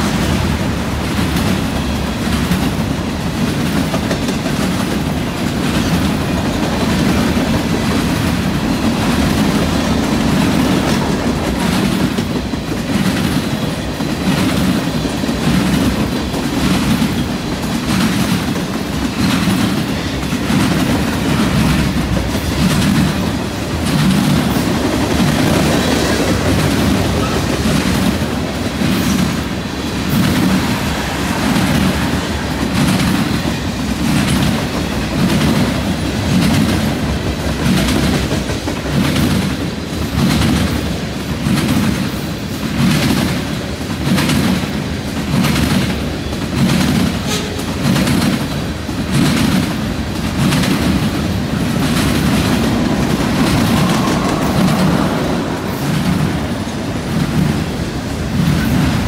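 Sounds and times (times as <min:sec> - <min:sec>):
freight train rumbling past: 0:00.0 - 0:59.0
train wheels clacking on track: 0:00.0 - 0:59.0.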